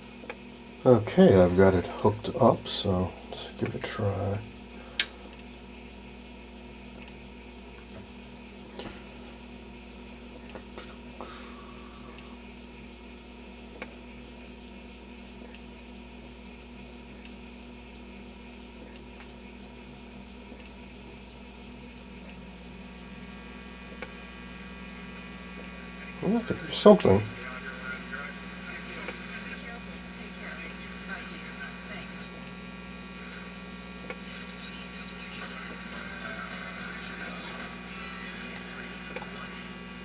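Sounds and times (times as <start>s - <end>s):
radio hiss and static: 0.0s - 14.6s, 21.4s - 40.0s
radio mains hum: 0.0s - 40.0s.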